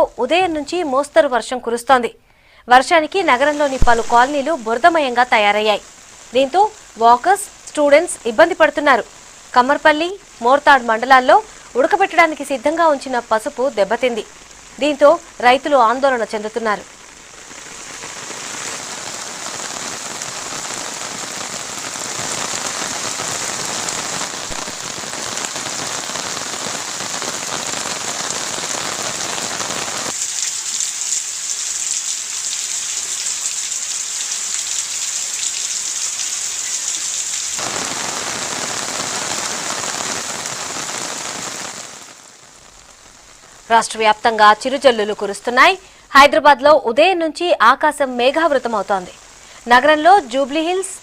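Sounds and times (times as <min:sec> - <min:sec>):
rain pattering: 0:02.7 - 0:51.0.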